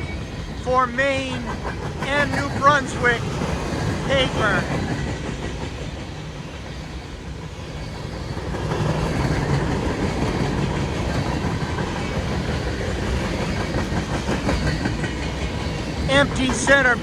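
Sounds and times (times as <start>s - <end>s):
train wheels rumbling and clattering: 0.0s - 17.0s.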